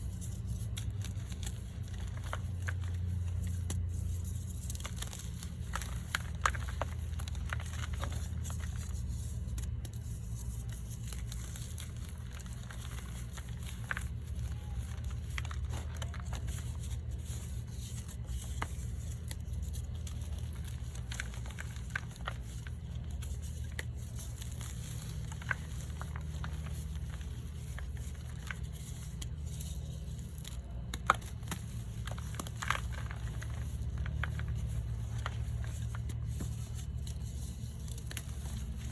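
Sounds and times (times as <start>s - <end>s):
chalk crunching and crumbling: 0.0s - 38.9s
low steady hum: 0.0s - 38.9s.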